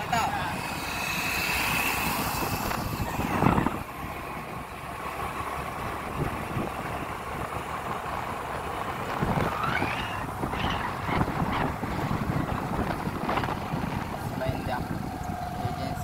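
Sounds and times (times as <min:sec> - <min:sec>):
motorcycle riding: 0:00.0 - 0:16.0
road noise: 0:00.0 - 0:16.0
wind buffeting microphone: 0:00.0 - 0:16.0.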